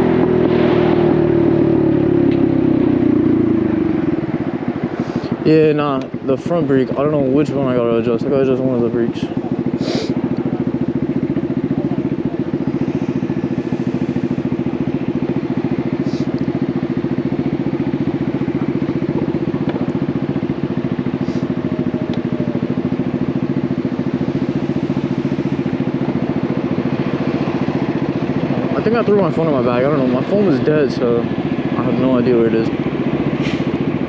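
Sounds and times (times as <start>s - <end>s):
small engine running steadily: 0.0s - 34.0s.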